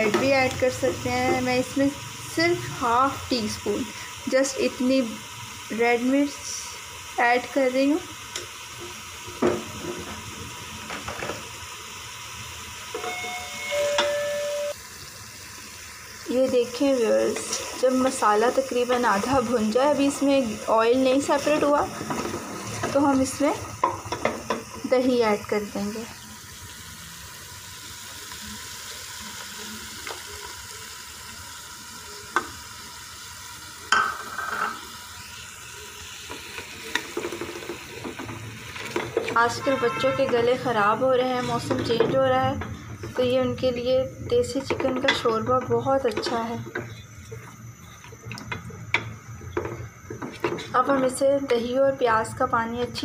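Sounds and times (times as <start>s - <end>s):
food sizzling in oil: 0.0s - 53.0s.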